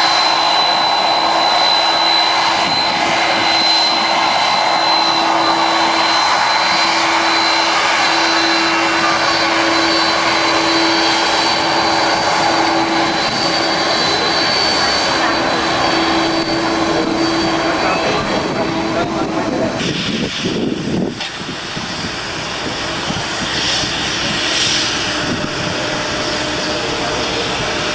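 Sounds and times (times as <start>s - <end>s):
high engine whine: 0.0s - 27.9s
jet engines roaring: 0.0s - 27.9s.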